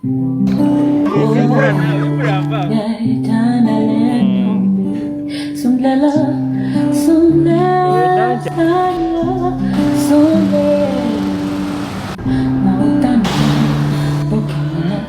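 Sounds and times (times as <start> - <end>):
guitar music: 0.0 - 15.0.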